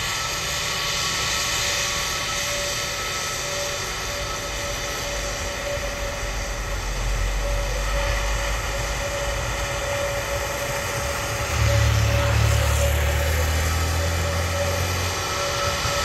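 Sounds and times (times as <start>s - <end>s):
jet engines humming: 0.0s - 16.0s.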